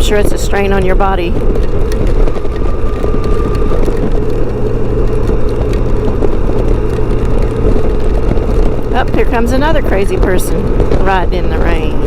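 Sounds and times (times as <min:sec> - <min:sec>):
muffled wind and road noise: 0:00.0 - 0:12.0.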